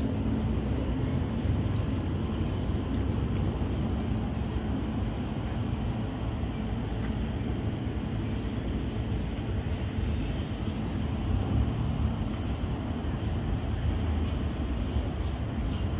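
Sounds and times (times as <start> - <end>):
road traffic rumble: 0.0 - 15.9.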